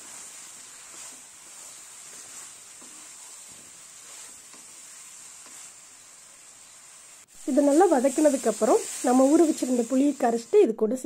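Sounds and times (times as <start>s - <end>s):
wooden spatula scraping pan: 0.0s - 10.5s
vegetables sizzling in oil: 0.0s - 11.0s.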